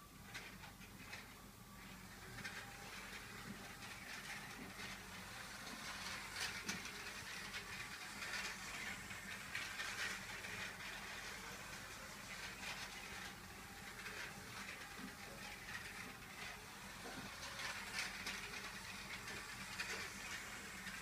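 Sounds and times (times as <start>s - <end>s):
toy train rolling whirr: 0.0s - 21.0s.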